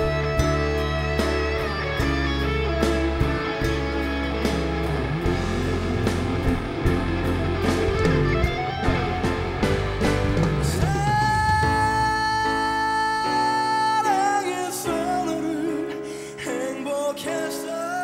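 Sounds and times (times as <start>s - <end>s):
rock band music: 0.0s - 18.0s.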